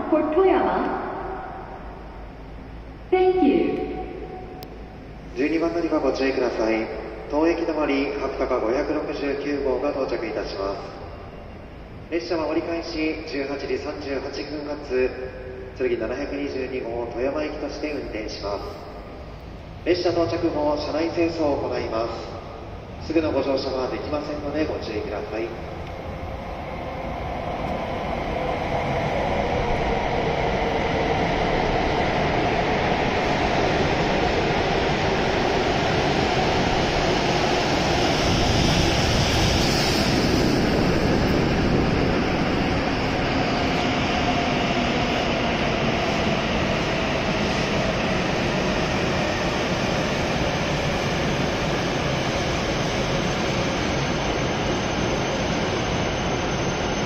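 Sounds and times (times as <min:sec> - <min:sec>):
train rushing and braking: 0:00.0 - 0:57.0.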